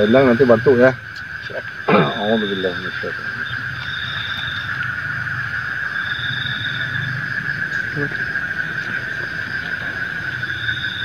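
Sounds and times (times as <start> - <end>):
high insect trill: 0.0 - 11.0
night insects droning: 0.0 - 11.0.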